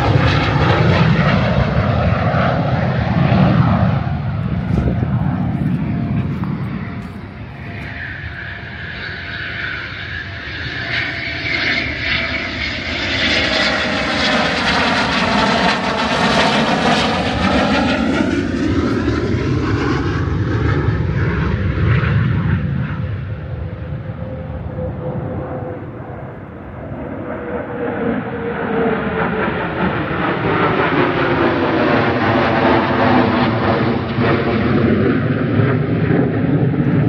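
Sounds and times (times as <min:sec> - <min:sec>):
fighter jets flying overhead: 0:00.0 - 0:37.0.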